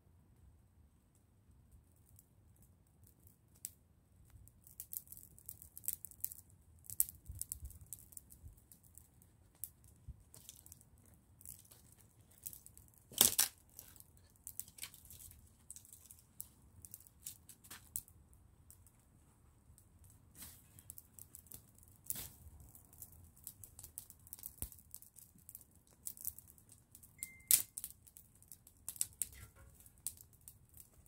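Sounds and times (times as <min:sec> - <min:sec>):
wood fire crackling: 0:01.0 - 0:31.0
fire snaps and pops: 0:01.1 - 0:31.0.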